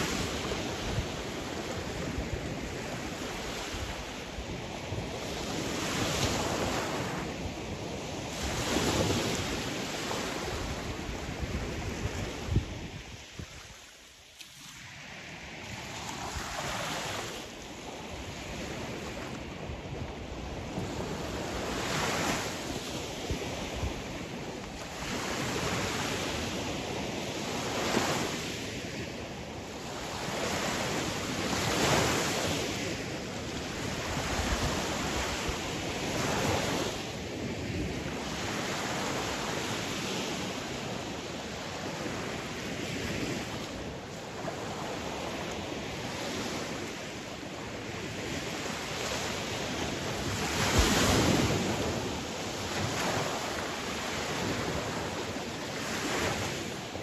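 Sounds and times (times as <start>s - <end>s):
sea waves breaking: 0.0s - 28.8s, 29.5s - 57.0s.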